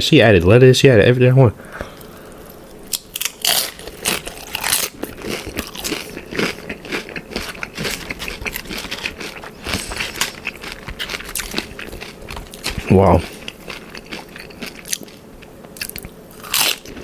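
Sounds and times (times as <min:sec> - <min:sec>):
person chewing crisp chips: 0:01.9 - 0:17.0.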